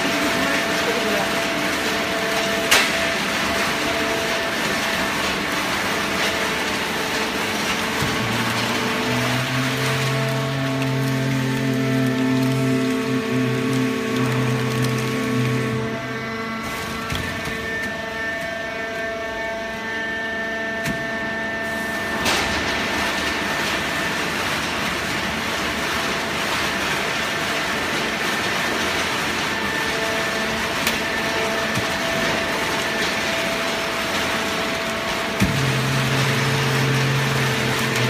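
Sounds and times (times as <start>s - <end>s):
baling press running with whine: 0.0s - 38.0s.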